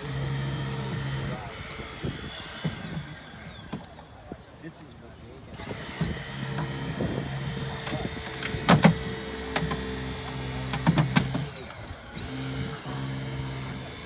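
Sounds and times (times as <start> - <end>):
hydraulic tool motor hum: 0.0 - 4.4, 5.4 - 14.0.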